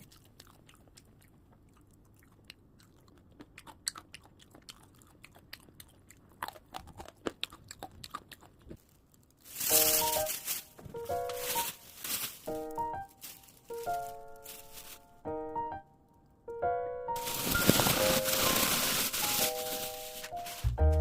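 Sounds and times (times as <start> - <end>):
crisp chewing crunches: 0.0 - 15.2, 17.2 - 20.7.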